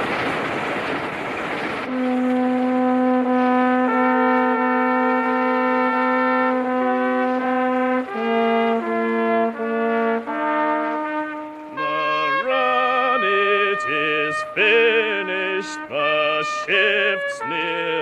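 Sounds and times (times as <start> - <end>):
brass ensemble chords: 1.8 - 18.0.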